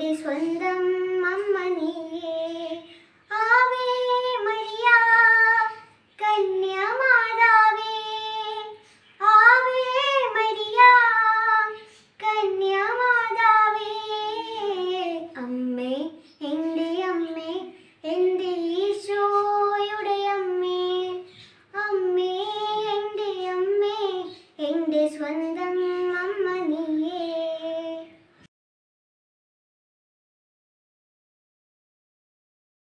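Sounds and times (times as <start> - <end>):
girl singing: 0.0 - 28.4.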